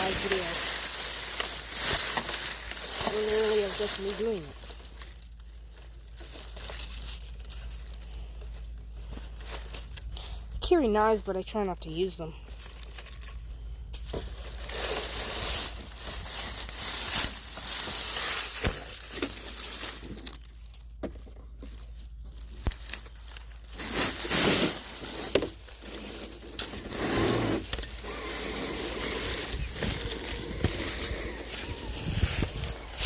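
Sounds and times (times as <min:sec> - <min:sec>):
close rustling and crinkling: 0:00.0 - 0:33.0.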